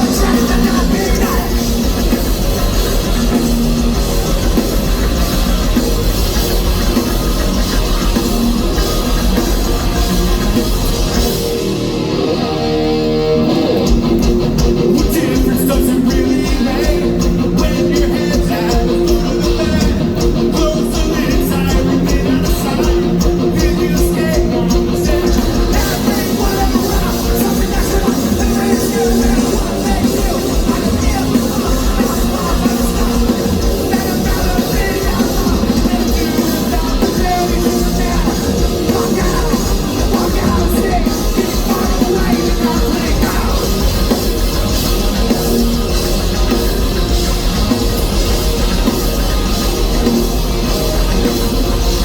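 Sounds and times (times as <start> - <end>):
pounding drums: 0.0 - 12.1, 13.8 - 52.0
bass guitar: 0.0 - 52.0
distorted electric guitars: 0.0 - 52.0.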